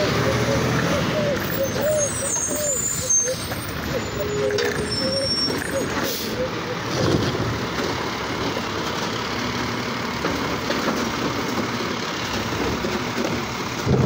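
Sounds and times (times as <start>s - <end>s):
garbage truck engine running: 0.0s - 14.0s.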